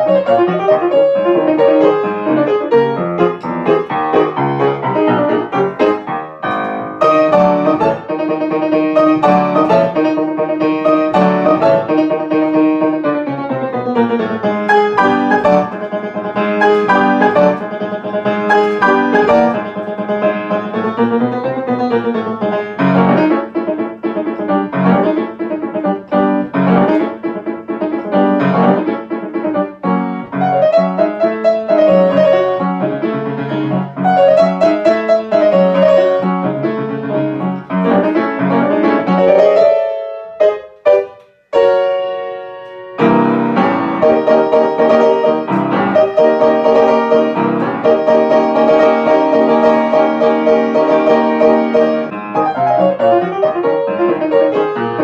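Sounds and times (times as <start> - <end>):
solo piano novelty piece: 0.0 - 55.0.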